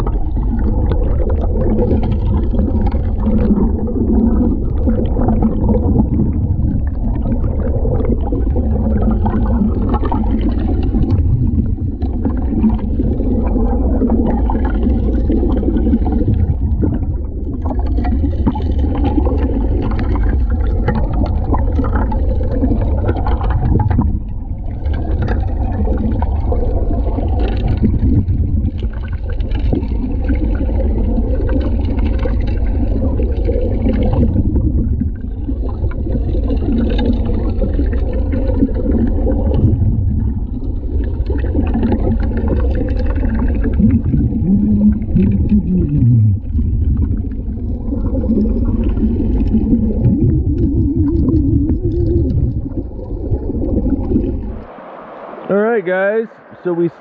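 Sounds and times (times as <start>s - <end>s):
dredge droning underwater: 0.0s - 57.0s
water and gravel rushing: 0.0s - 57.0s.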